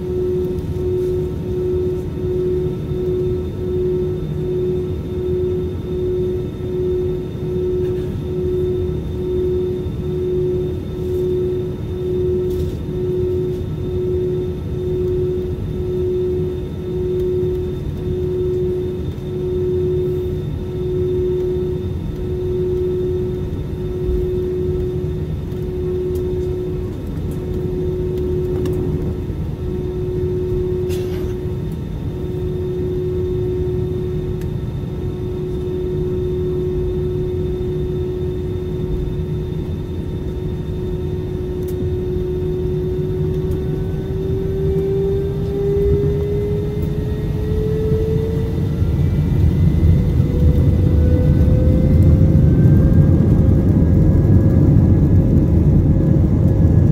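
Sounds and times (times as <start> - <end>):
jet engines humming: 0.0 - 56.9.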